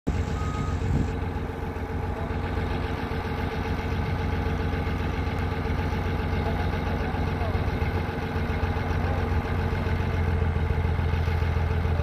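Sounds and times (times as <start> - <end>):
heavy diesel engine running: 0.1 - 12.0.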